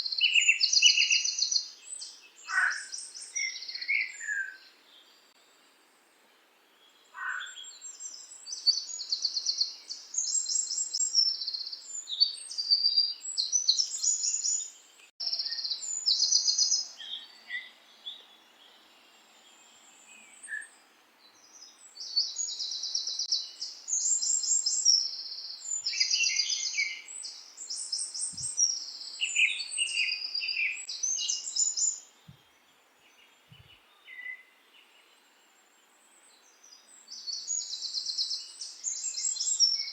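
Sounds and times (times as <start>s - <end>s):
songbirds singing trills: 0.0s - 5.6s, 6.7s - 39.9s.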